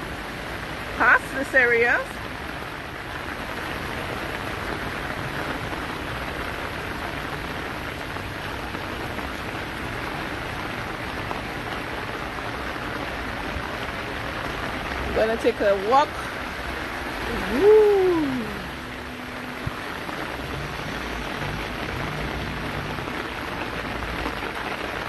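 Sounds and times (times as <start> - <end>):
rain falling on street: 0.0 - 25.0.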